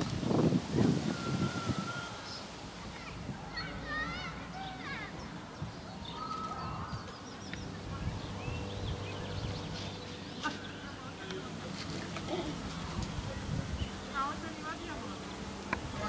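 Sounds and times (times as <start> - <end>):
small birds singing: 0.0 - 16.0
wind rumble on microphone: 0.0 - 16.0.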